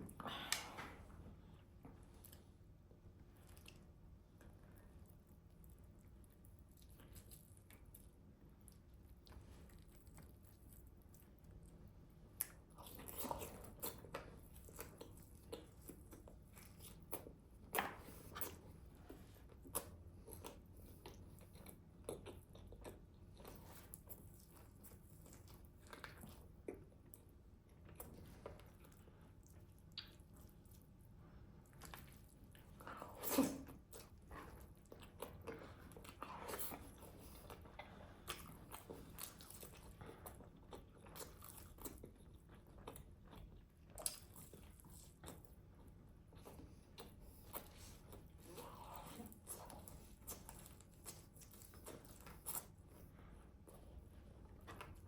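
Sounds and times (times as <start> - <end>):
chewing chicken with crunches: 5.3 - 55.0.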